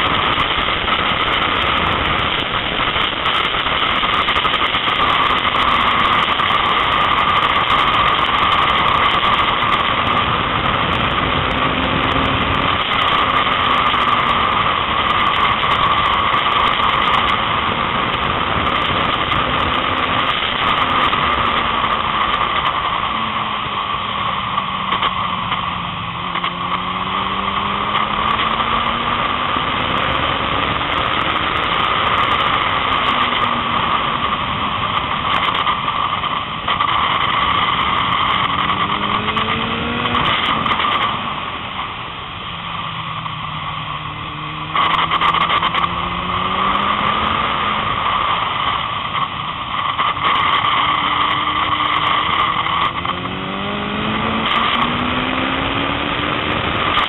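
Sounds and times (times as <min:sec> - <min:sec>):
motorcycle engine at speed: 0:00.0 - 0:57.0
wind rushing on microphone: 0:00.0 - 0:57.0.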